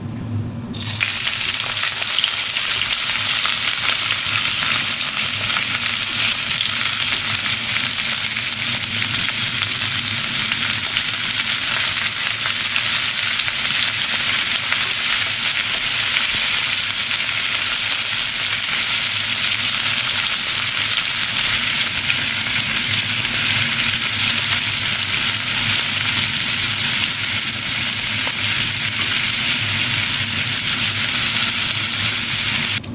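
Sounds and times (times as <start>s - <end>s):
fish deep-frying in hot oil: 0.8s - 32.8s.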